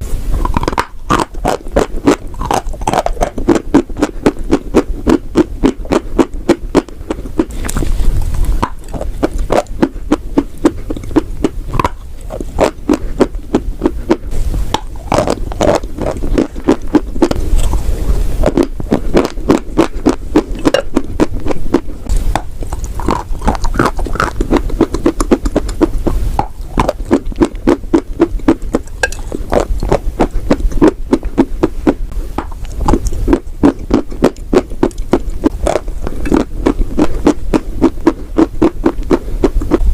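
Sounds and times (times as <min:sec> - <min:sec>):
mouth sounds: 0:00.0 - 0:39.9
chewing chalk crunches: 0:00.4 - 0:17.8, 0:18.4 - 0:31.5, 0:32.4 - 0:39.8.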